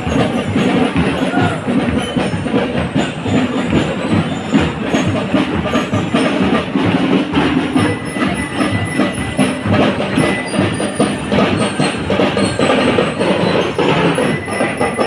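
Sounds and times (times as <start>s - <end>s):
drums beating: 0.0s - 15.0s
marching band playing: 0.0s - 15.0s.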